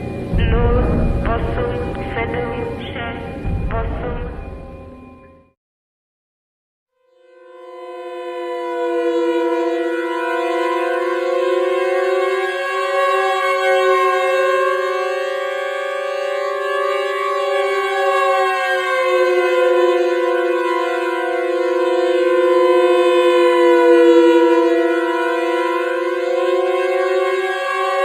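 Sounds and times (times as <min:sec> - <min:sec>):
loud wavering siren tone: 0:00.0 - 0:05.6, 0:07.0 - 0:28.0.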